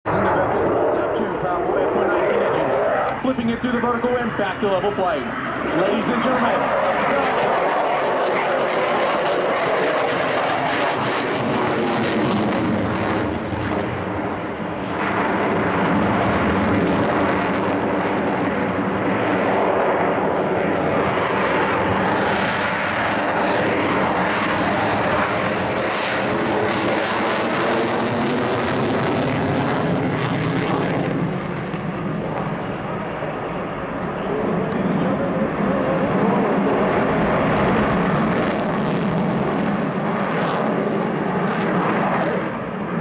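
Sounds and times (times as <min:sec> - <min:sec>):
loud jet noise: 0:00.0 - 0:43.0.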